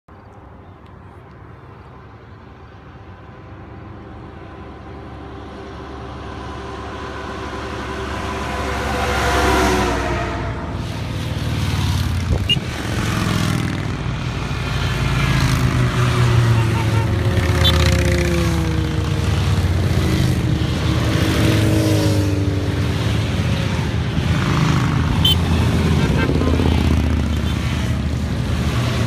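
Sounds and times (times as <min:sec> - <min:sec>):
motorcycle engines: 0:00.1 - 0:29.0
tanker truck passing: 0:03.8 - 0:29.0.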